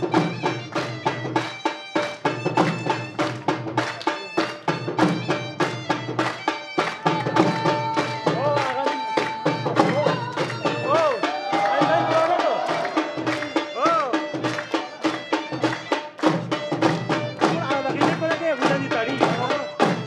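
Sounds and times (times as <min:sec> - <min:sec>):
drum beating steady rhythm: 0:00.0 - 0:20.0
wind instrument melody: 0:00.0 - 0:20.0.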